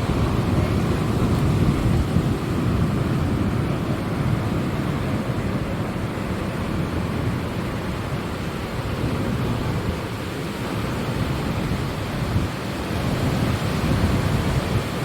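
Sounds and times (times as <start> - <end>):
surf on rocky shore: 0.0 - 15.0
wind buffeting microphone: 0.0 - 15.0.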